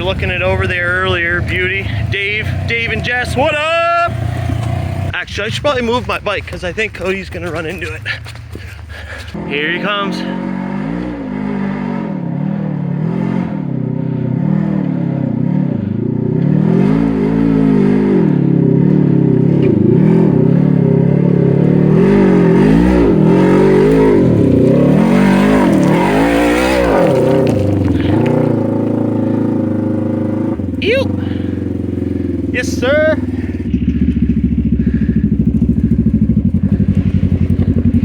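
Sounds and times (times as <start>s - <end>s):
off-road vehicle engine revving: 0.0s - 38.0s.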